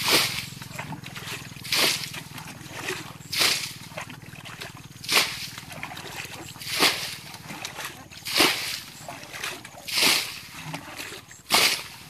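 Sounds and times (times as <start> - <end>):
bucket water splashing: 0.0 - 12.0.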